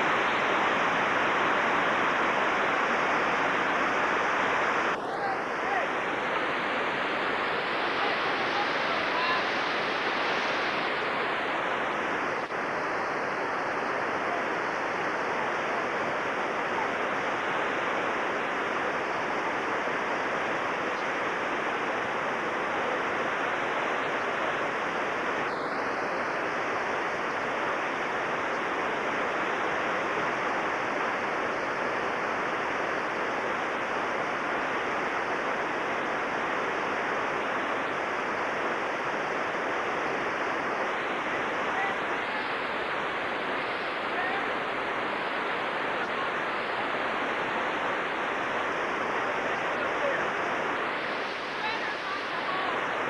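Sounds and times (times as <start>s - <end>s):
river water roaring over rocks: 0.0s - 53.0s.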